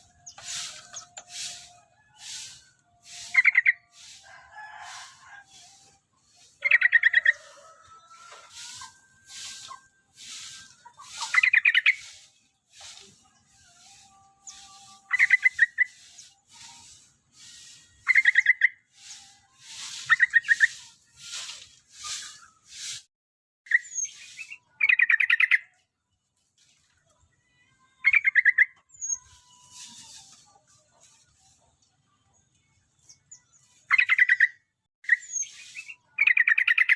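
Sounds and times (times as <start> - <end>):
soft hissy bird chatter: 0.0 - 23.1, 23.8 - 25.6, 28.4 - 34.4, 35.1 - 36.9.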